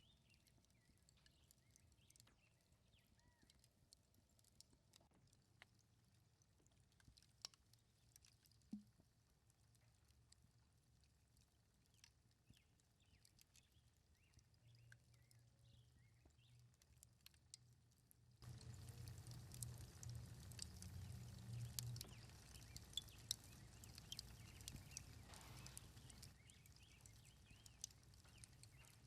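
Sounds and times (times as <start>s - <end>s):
soft ticks: 0.2s - 15.5s, 16.2s - 17.7s, 18.4s - 29.0s.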